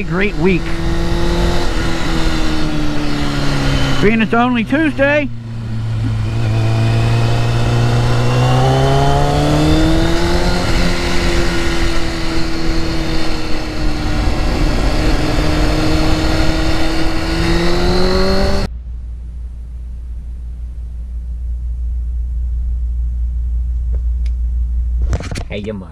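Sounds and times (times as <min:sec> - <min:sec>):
wind and road noise: 0:00.0 - 0:21.2
motorcycle engine accelerating: 0:00.0 - 0:25.4
low rumble: 0:00.0 - 0:25.9.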